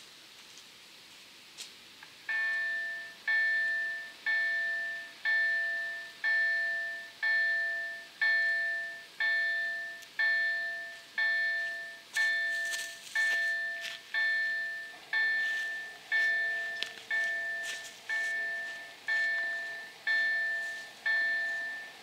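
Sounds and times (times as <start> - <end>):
level crossing warning bell: 2.3 - 22.0.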